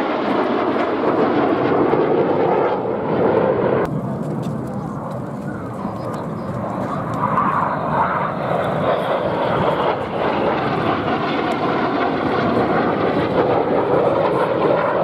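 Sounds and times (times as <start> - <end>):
jet aircraft rushing overhead: 0.0 - 15.0.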